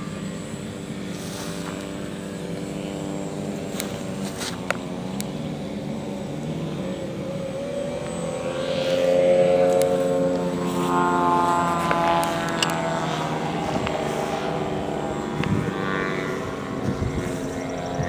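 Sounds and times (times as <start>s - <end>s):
model airplane engine drone: 0.0s - 18.0s.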